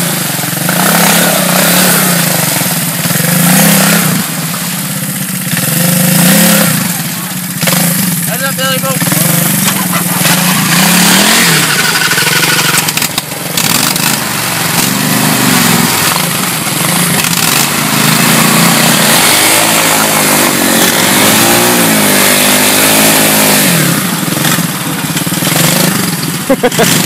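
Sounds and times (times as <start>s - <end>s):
small engine revving: 0.0s - 27.0s
splashing through mud and water: 0.0s - 27.0s.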